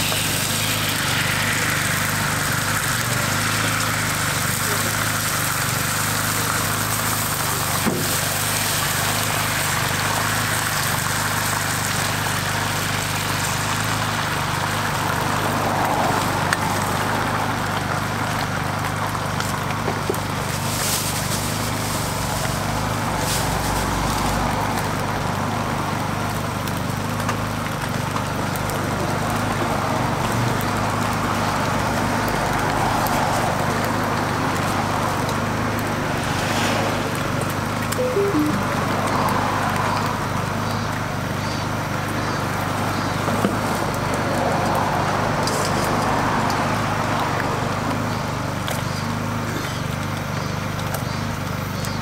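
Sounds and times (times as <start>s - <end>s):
egg sizzling on a griddle: 0.0s - 52.0s.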